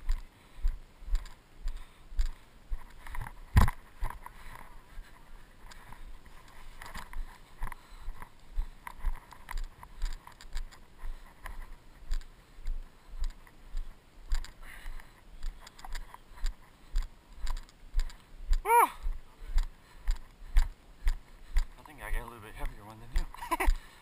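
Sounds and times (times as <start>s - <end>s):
footsteps on dirt and grass: 0.0s - 24.0s
camera clicks and rattles: 1.1s - 4.8s, 5.6s - 18.6s, 19.6s - 21.8s, 22.6s - 23.9s.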